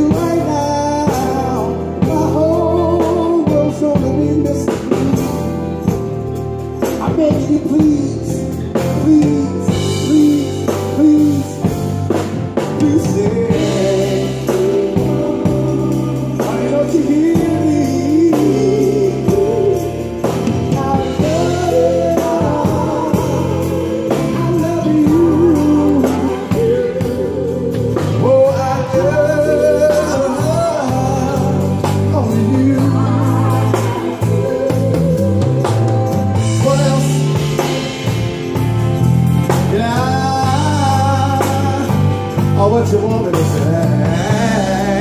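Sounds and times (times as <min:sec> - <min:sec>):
live blues band: 0:00.0 - 0:45.0.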